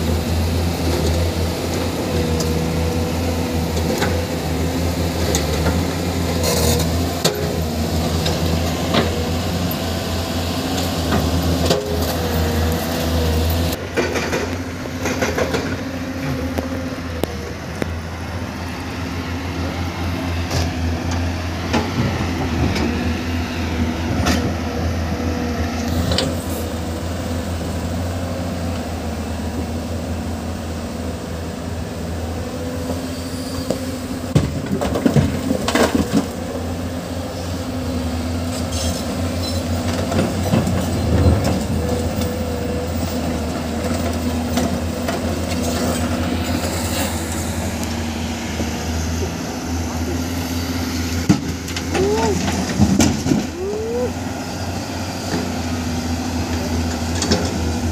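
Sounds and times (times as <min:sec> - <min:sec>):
diesel machinery running: 0:00.0 - 0:57.9.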